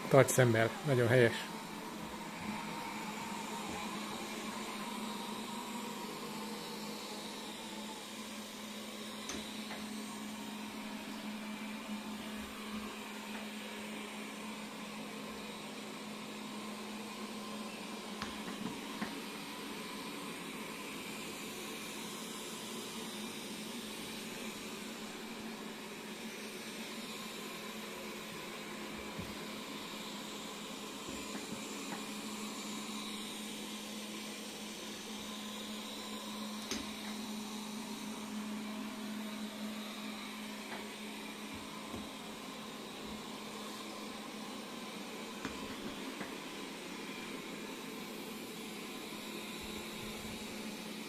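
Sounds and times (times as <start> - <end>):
fan and brushes hissing: 0.0 - 51.0
robot vacuum cleaner whirring: 0.0 - 51.0.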